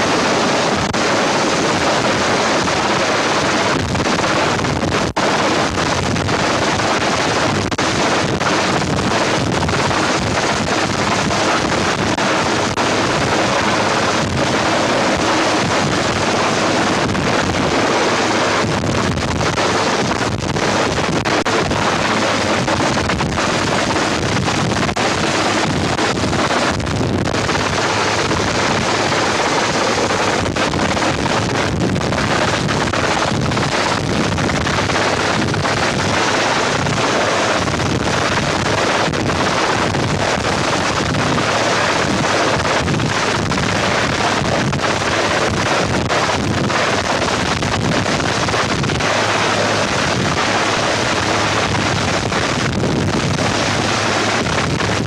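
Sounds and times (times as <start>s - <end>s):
wind blowing over microphone: 0.0s - 55.0s.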